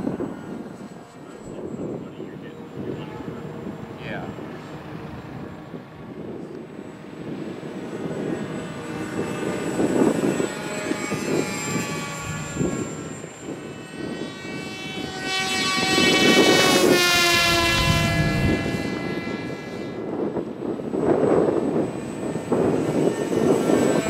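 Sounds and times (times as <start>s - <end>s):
model airplane motors whining: 0.0s - 24.0s.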